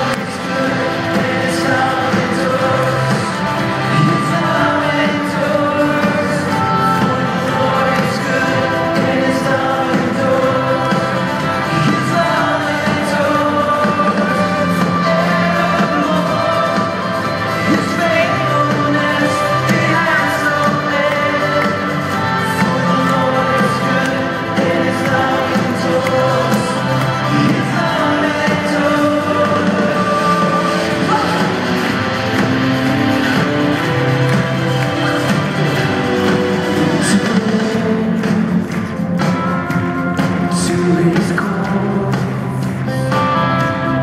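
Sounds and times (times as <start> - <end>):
distant live band with singing: 0.0 - 44.0.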